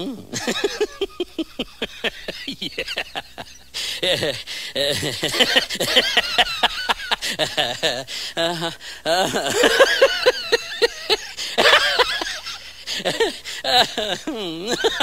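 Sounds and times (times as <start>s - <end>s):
person laughing: 0.0s - 15.0s.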